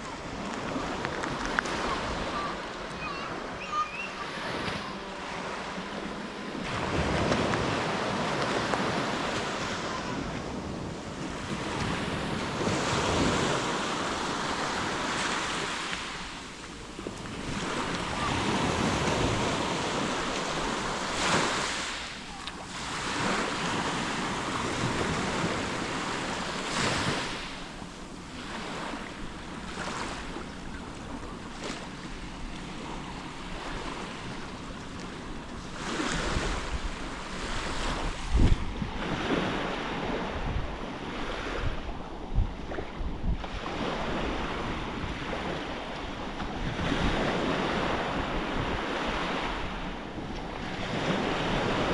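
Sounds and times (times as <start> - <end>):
waves breaking on shore: 0.0 - 51.9
wind buffeting microphone: 4.5 - 51.9.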